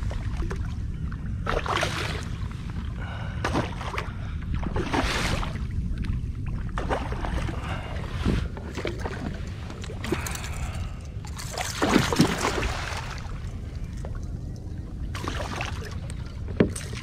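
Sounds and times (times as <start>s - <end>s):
water sloshing around a kayak: 0.0s - 17.0s
wind rumble on microphone: 0.0s - 17.0s.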